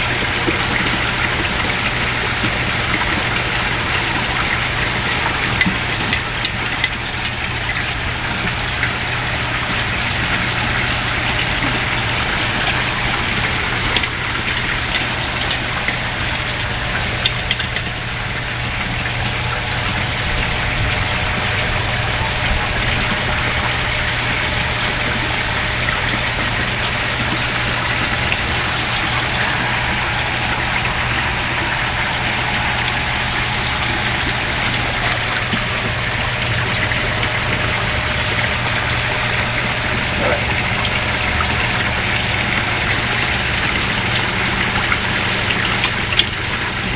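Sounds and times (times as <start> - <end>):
pump motor hum: 0.0 - 46.9
water churning and splashing: 0.0 - 46.9.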